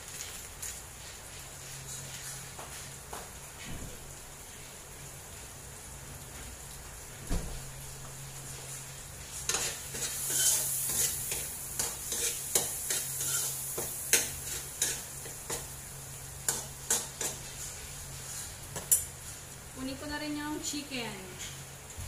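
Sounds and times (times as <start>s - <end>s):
garlic and onion sizzling: 0.0s - 22.0s.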